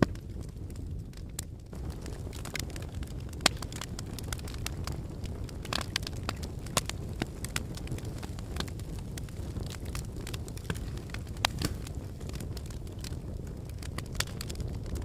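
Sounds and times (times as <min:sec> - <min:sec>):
logs crackling and popping in fire: 0:00.0 - 0:15.0
low rumble of flame: 0:00.0 - 0:15.0.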